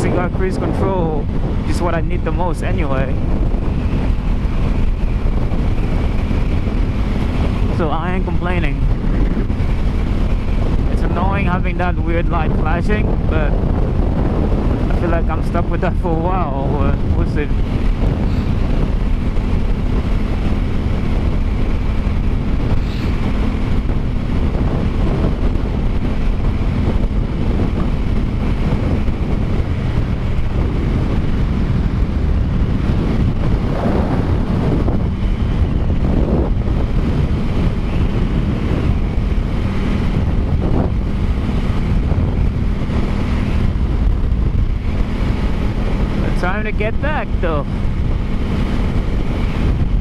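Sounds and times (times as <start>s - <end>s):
motorcycle engine cruising: 0.0s - 50.0s
wind rushing over microphone: 0.0s - 50.0s.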